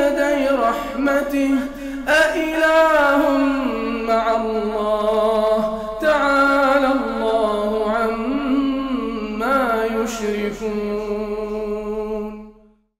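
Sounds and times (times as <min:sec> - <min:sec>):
man chanting recitation: 0:00.0 - 0:12.7.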